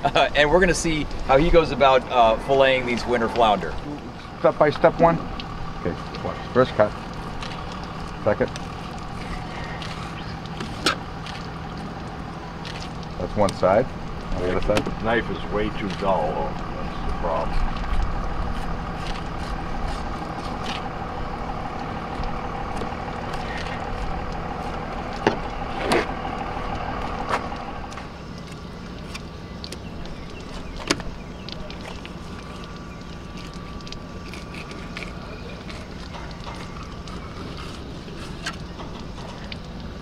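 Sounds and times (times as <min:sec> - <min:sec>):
engine hum: 0:00.0 - 0:40.0
whining tone: 0:00.0 - 0:40.0.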